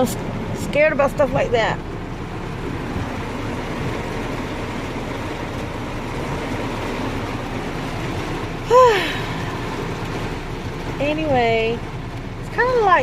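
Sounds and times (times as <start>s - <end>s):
car engine idling: 0.0s - 13.0s
rain on car roof: 0.0s - 13.0s.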